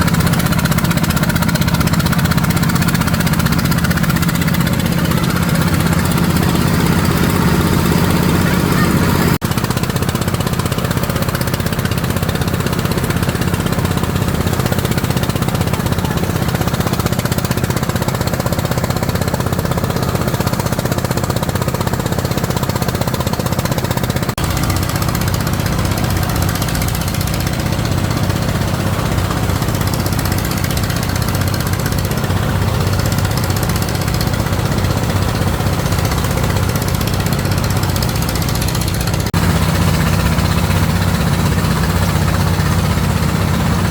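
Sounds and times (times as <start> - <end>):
small engine running steadily: 0.0 - 43.9.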